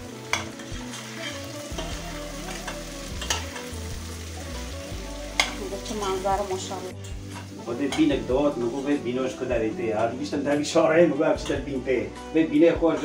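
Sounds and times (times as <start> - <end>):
beans sizzling in a pot: 0.0 - 13.0.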